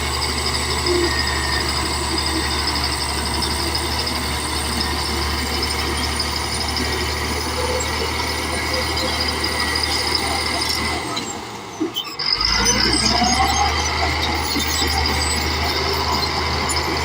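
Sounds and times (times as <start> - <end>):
bulldozer diesel engine running: 0.0 - 17.0
high turbo whine: 0.0 - 17.0.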